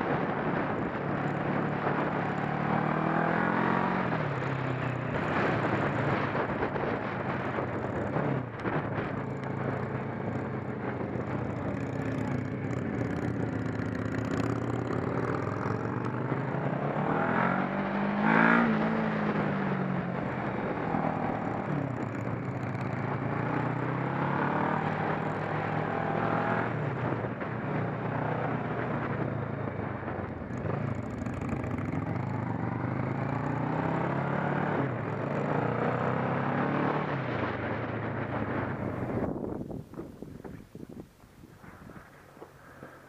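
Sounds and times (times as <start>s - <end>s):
wind and road noise: 0.0s - 43.0s
motorcycle engine revving: 0.1s - 27.4s, 29.7s - 39.6s.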